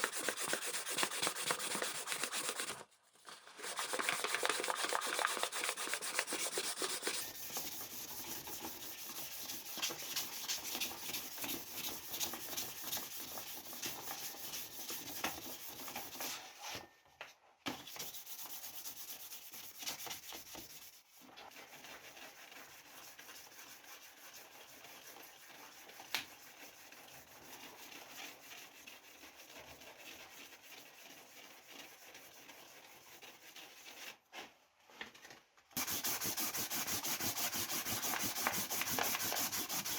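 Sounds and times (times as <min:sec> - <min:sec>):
hand sanding rasping strokes: 0:00.0 - 0:02.8, 0:03.6 - 0:16.4, 0:17.9 - 0:34.1, 0:35.8 - 0:39.9.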